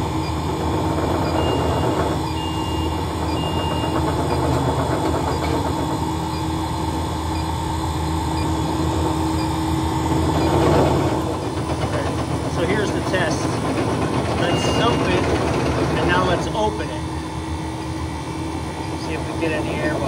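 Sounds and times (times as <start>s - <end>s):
refrigeration unit humming: 0.0s - 20.0s.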